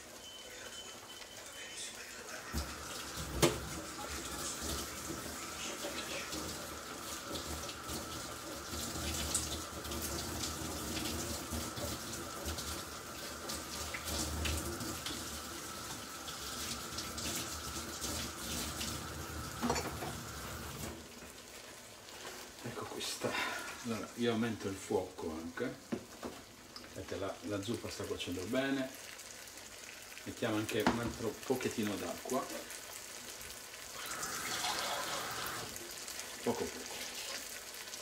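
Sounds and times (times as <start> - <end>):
kitchen tap running water: 2.4 - 21.5, 22.7 - 38.0.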